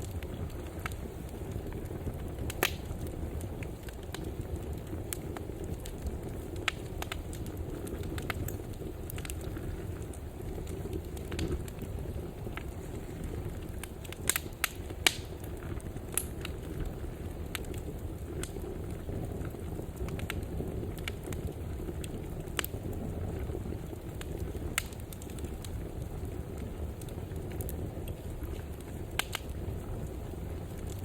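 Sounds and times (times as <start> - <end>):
fire burning in a fireplace: 0.0 - 31.0
fire pops and crackles: 0.0 - 31.0.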